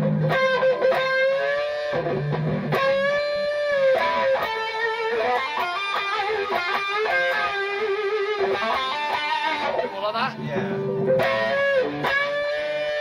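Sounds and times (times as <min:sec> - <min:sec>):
electric guitar lead: 0:00.0 - 0:13.0.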